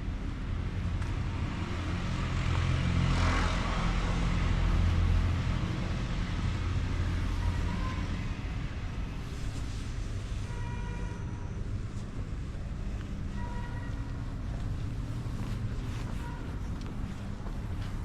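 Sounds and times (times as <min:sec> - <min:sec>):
road traffic rumbling: 0:00.0 - 0:18.0.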